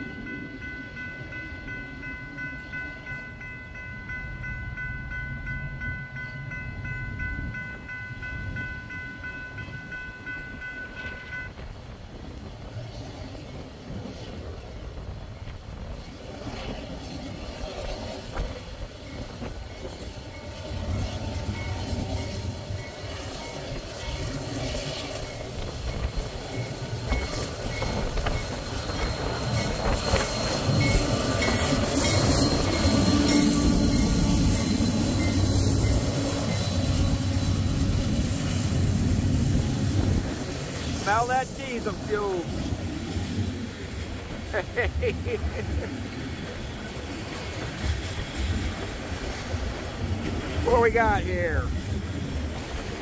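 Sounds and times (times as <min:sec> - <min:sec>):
railroad crossing bell ringing: 0:00.0 - 0:12.5, 0:16.5 - 0:53.0
freight train rumble: 0:00.0 - 0:53.0.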